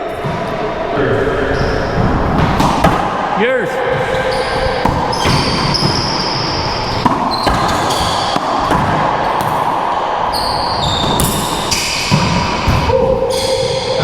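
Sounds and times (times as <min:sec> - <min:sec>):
racquetball cracking off racquets and walls: 0:00.1 - 0:03.3, 0:03.9 - 0:14.0.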